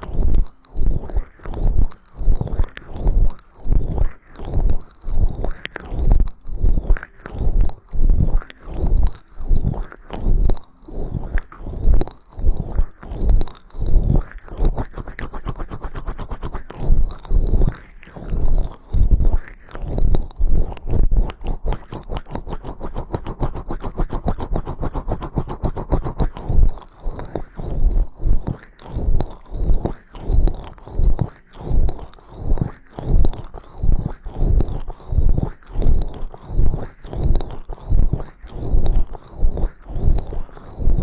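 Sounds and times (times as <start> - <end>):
rubbing or scraping at microphone: 0.0 - 41.0.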